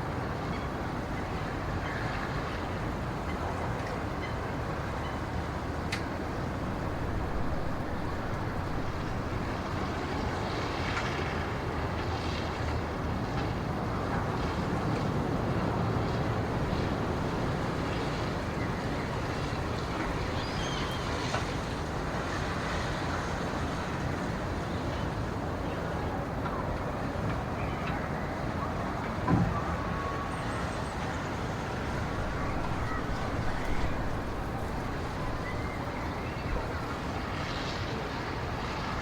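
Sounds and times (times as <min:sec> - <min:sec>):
wind through pine trees: 0:00.0 - 0:39.0.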